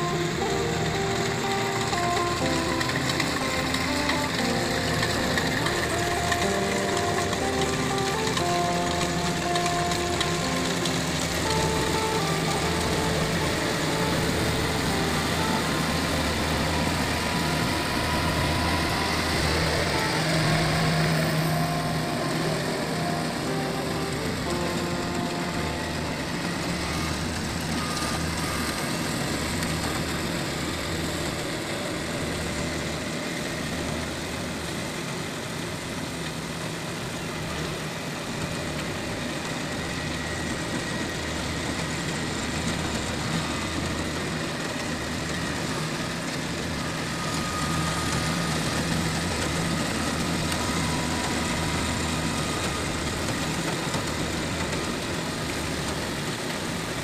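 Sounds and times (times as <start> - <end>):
combine harvester engine hum: 0.0 - 57.0
faint machinery whine: 0.0 - 57.0.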